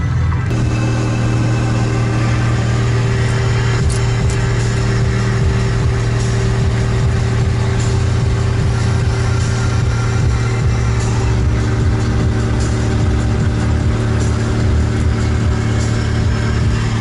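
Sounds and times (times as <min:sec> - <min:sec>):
car engine drone: 0:00.0 - 0:17.0
tyre and road noise: 0:00.0 - 0:17.0.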